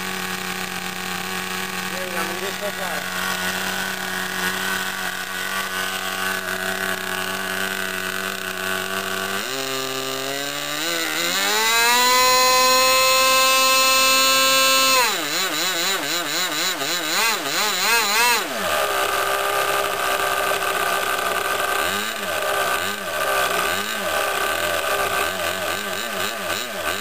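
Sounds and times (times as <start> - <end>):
model airplane engine revving: 0.0 - 27.0.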